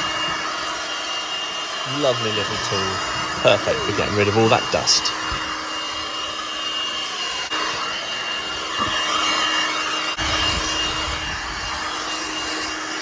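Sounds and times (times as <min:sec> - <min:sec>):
handheld blower whining: 0:00.0 - 0:13.0.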